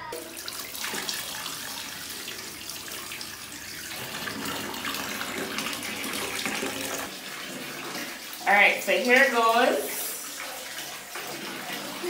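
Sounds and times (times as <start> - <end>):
tap running into bathtub: 0.0 - 12.0
water splashing: 0.0 - 12.0.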